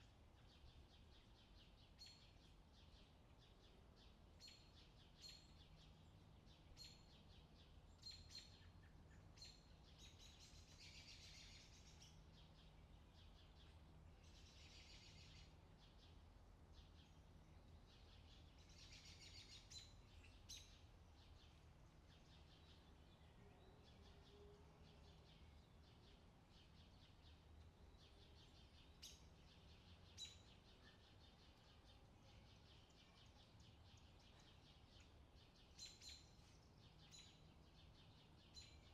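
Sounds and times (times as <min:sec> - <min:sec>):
low steady hum: 0:00.0 - 0:38.9
birds chirping and trilling: 0:04.4 - 0:38.9.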